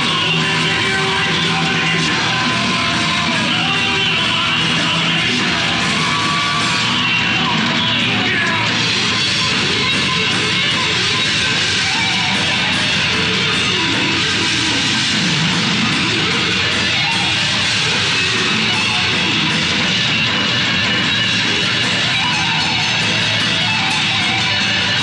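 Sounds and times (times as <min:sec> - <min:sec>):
heavy metal band playing live: 0:00.0 - 0:25.0.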